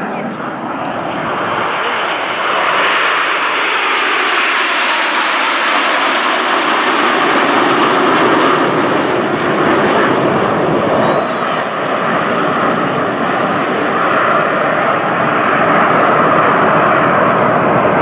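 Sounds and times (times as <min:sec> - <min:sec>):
jets flying by: 0:00.0 - 0:18.0.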